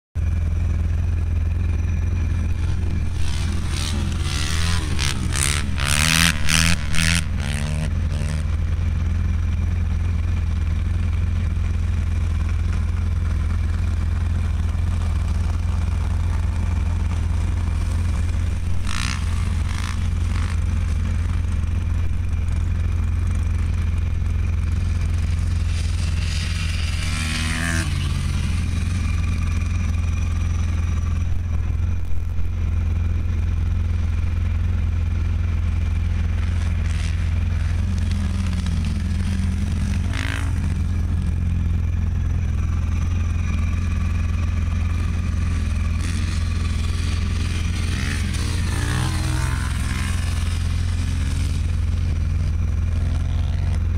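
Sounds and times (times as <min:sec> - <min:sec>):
dirt bike engine revving: 0:00.3 - 0:53.9.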